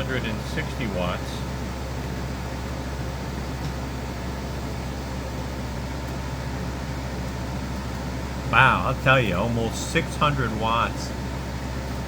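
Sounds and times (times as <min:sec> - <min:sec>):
air conditioner fan rushing air: 0:00.0 - 0:12.0
low compressor hum: 0:00.0 - 0:12.0.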